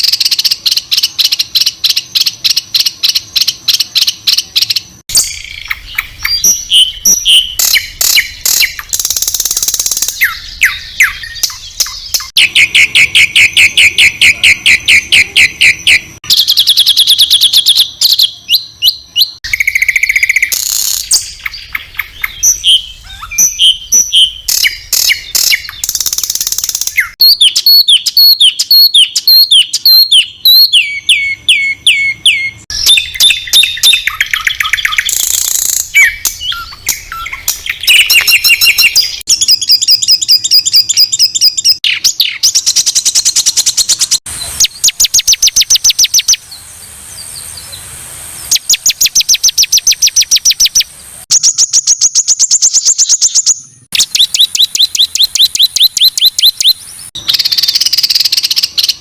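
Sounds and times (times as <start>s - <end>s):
songbird calls: 0.0s - 47.9s, 48.5s - 59.0s.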